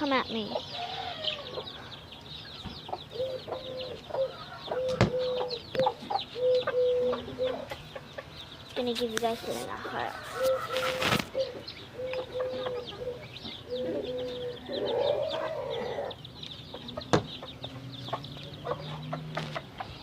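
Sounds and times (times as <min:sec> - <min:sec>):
chicks peeping: 0:00.0 - 0:20.0
hen clucking: 0:00.0 - 0:20.0.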